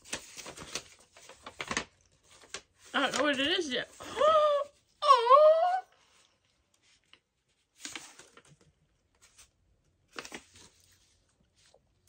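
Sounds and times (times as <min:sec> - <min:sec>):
paper sheet rustling: 0:00.0 - 0:04.9, 0:06.8 - 0:11.8.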